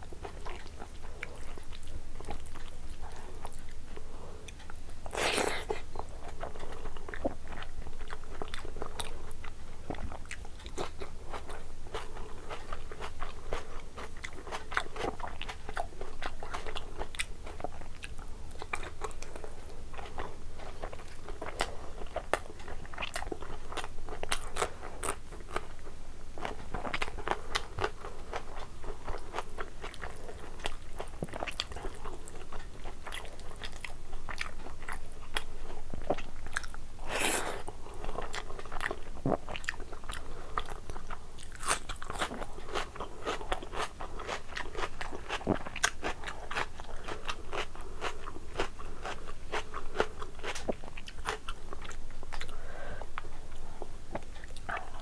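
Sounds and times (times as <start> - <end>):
mouth chewing and crunching food: 0.0 - 55.0.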